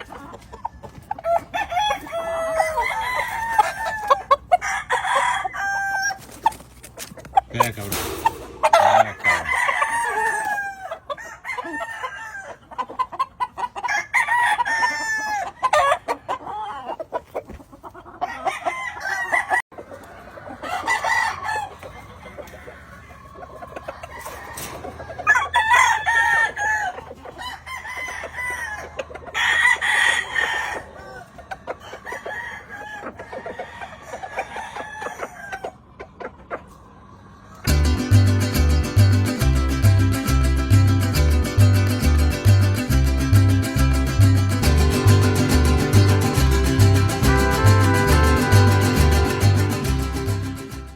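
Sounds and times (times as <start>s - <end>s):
roosters crowing: 0.0s - 17.3s, 17.9s - 36.0s, 44.6s - 50.8s
hens clucking: 0.0s - 40.2s, 41.4s - 50.9s.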